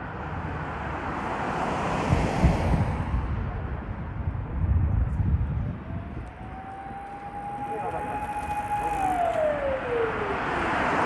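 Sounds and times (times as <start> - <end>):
rushing vehicle with low rumbling: 0.0 - 11.0
wind buffeting microphone: 2.0 - 11.0.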